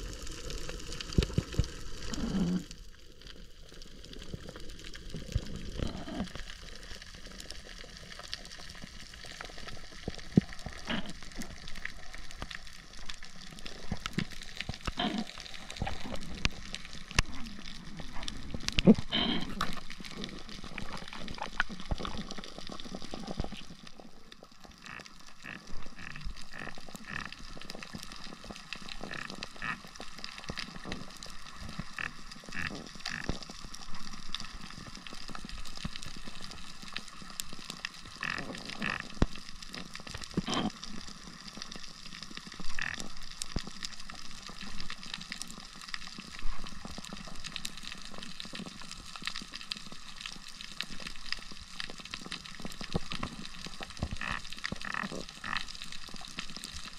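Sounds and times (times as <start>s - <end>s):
crackling clicks: 0.0s - 56.9s.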